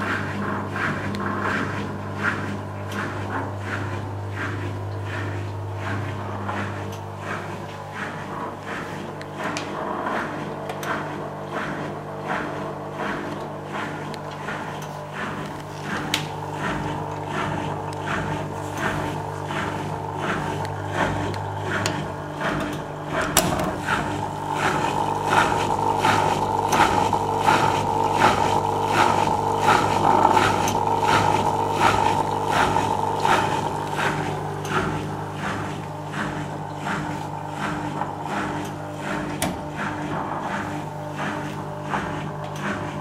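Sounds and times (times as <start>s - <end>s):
drain pump humming with swishing pulse: 0.0s - 43.0s.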